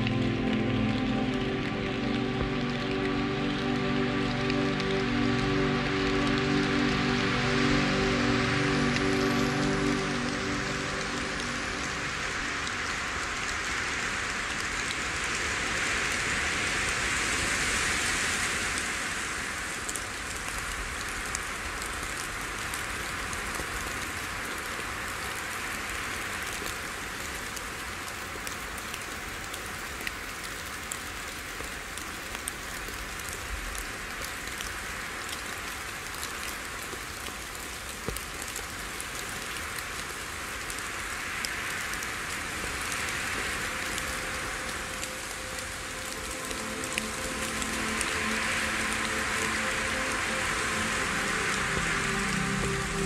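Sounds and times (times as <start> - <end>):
small waves washing on beach: 0.0 - 53.0.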